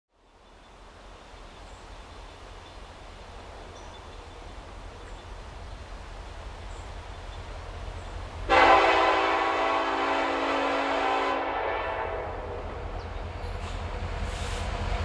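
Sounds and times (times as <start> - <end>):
wind: 0.1 - 15.0.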